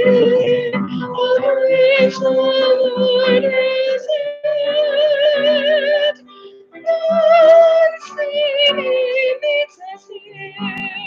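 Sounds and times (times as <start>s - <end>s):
woman singing a hymn: 0.0s - 11.0s.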